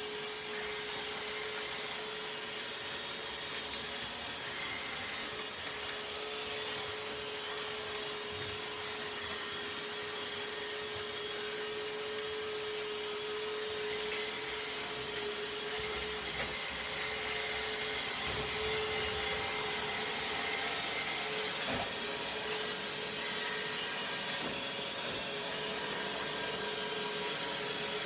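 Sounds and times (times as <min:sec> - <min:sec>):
robot vacuum cleaner running: 0:00.0 - 0:28.0.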